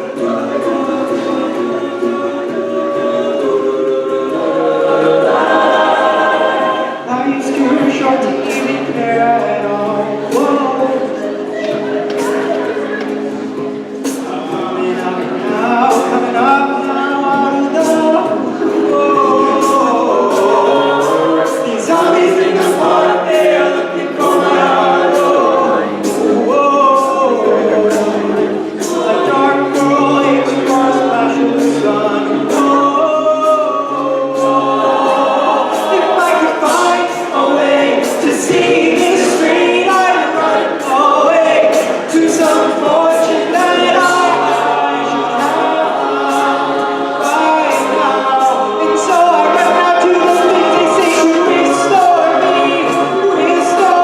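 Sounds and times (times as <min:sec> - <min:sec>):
a cappella group singing: 0:00.0 - 0:54.0
beatboxing: 0:00.0 - 0:54.0.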